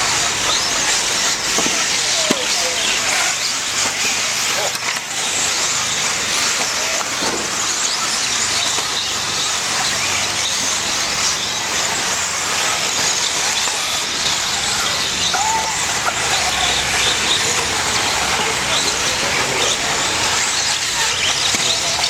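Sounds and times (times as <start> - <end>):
toy car motors whining: 0.0 - 22.0
tyres hissing on track: 0.0 - 22.0.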